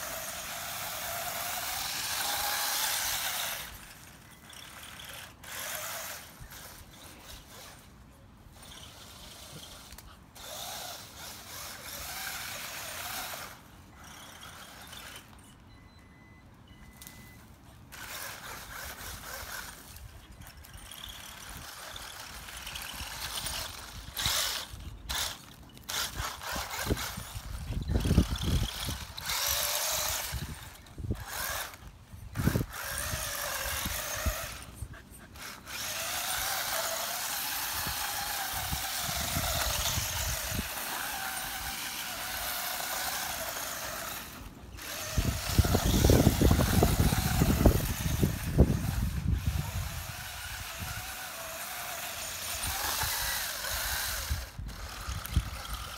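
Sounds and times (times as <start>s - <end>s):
toy car electric motor whining: 0.0s - 55.9s.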